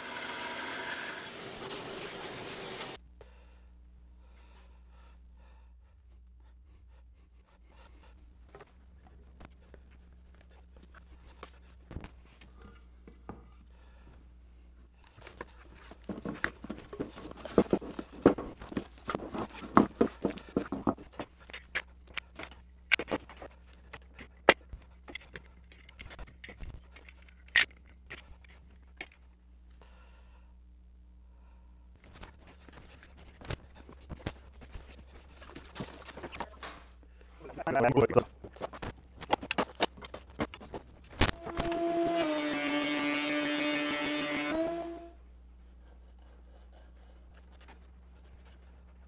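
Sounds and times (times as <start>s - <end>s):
steady low hum: 3.0s - 49.0s.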